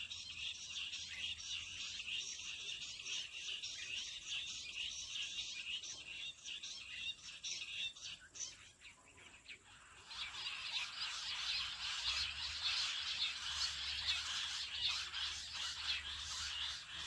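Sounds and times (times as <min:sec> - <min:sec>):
chorus of rapid chirping calls: 0:00.0 - 0:17.0.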